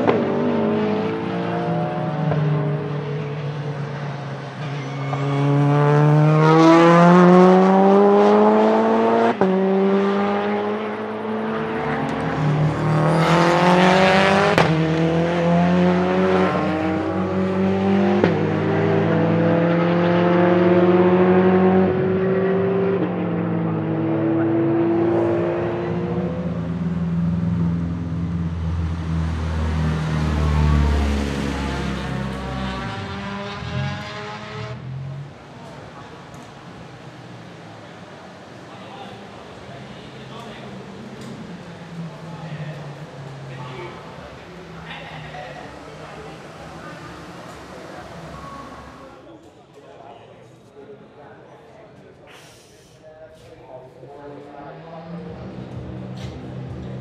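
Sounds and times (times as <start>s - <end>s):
race car engine upshifting: 0.0s - 49.3s, 54.2s - 57.0s.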